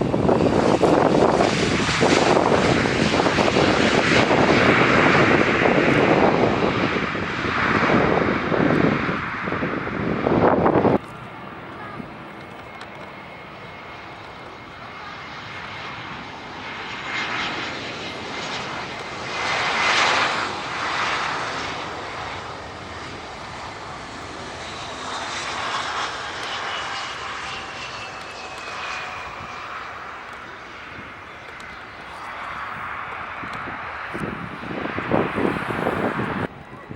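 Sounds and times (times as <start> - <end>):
jet airliner passing low: 0.0 - 36.9.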